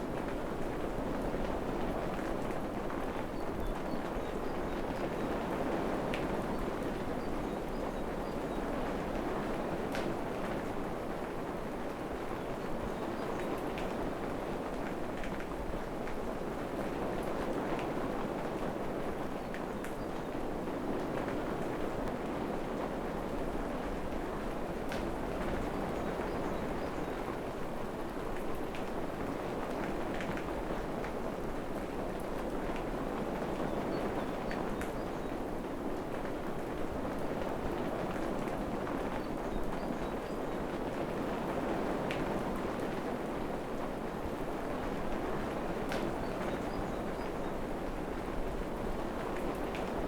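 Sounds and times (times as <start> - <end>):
rain pattering in a forest: 0.0 - 50.0.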